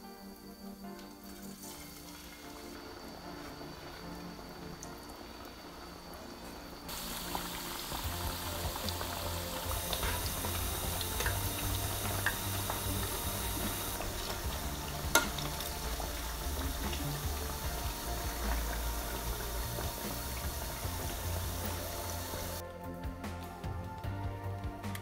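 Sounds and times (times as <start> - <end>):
deep-frying sizzle: 1.0 - 22.6.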